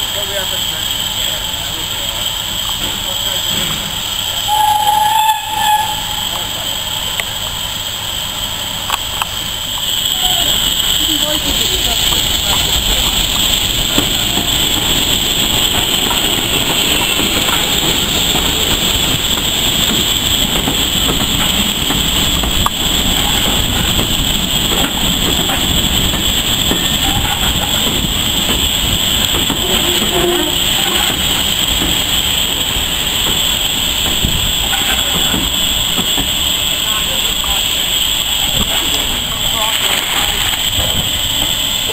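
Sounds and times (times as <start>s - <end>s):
steam hissing from locomotive: 0.0s - 41.9s
train wheels clattering over rail joints: 0.2s - 4.0s, 8.8s - 41.9s.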